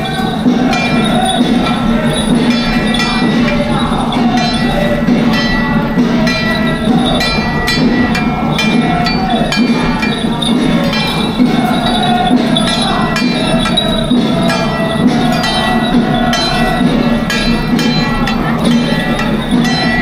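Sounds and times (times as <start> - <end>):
gongs and cymbals beat: 0.0 - 20.0
sustained melody: 0.0 - 20.0.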